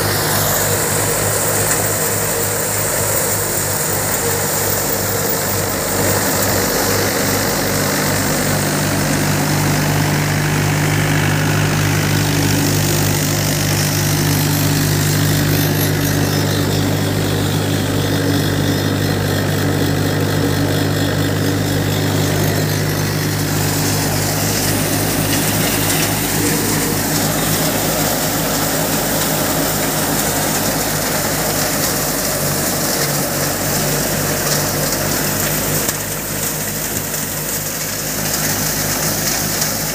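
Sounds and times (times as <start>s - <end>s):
threshing drum whirring: 0.0s - 39.9s
tractor diesel engine running: 0.0s - 39.9s.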